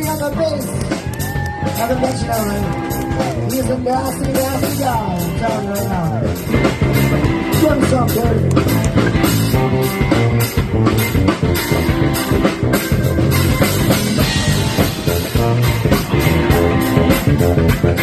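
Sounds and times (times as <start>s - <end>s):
electric bass solo: 0.0s - 18.0s
rock band playing: 0.0s - 18.0s.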